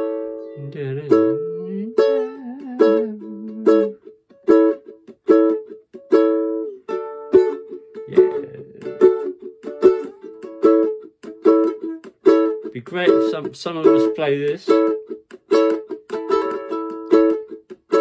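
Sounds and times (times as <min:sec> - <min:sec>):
ukulele strumming: 0:00.0 - 0:18.0.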